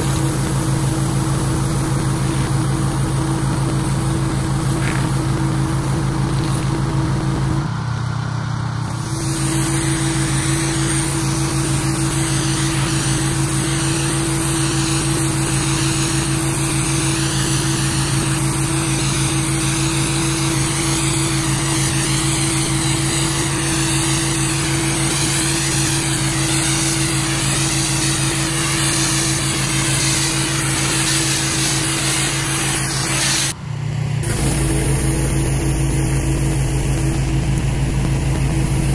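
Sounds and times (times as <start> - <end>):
water spraying onto concrete: 0.0 - 7.7, 8.8 - 33.6, 34.2 - 38.9
pressure washer engine running: 0.0 - 38.9.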